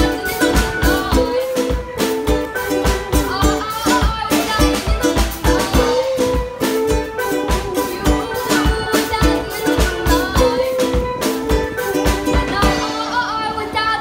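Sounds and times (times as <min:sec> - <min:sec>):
drum kit bass-drum beat: 0:00.0 - 0:13.2.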